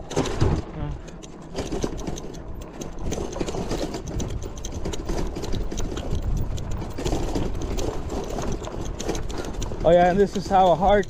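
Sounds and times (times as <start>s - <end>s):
basket and parts clicking: 0.0s - 11.0s
bicycle rattling over dirt trail: 0.0s - 11.0s
low rumble of tyres: 0.0s - 11.0s.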